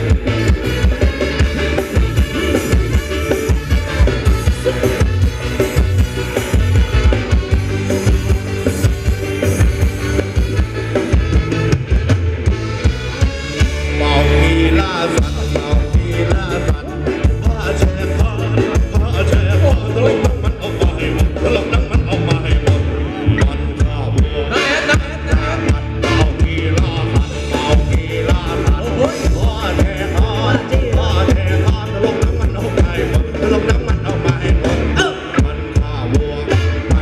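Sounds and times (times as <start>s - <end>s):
driving drum beat: 0.0s - 37.0s
live band dance music: 0.0s - 37.0s.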